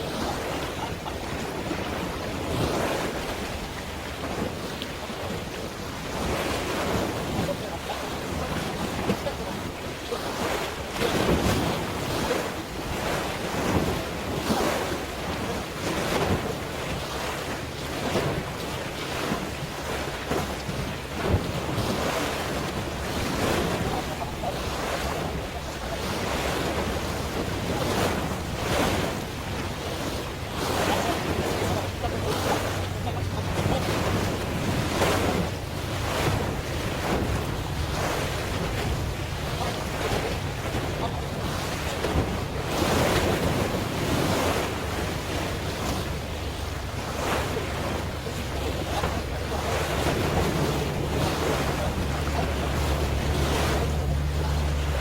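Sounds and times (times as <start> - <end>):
sea waves washing: 0.0 - 55.0
wind buffeting microphone: 0.0 - 55.0.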